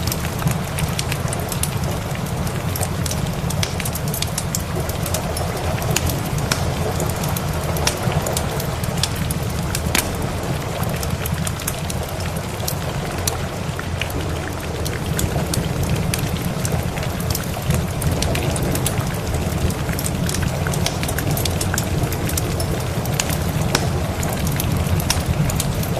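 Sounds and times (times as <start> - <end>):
steady rain: 0.0 - 25.9
wood fire crackling and popping: 0.0 - 25.9.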